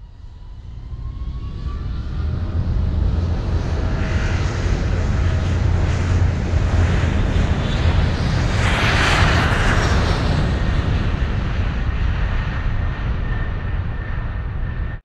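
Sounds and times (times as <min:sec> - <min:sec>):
steady low rumble: 0:00.2 - 0:15.0.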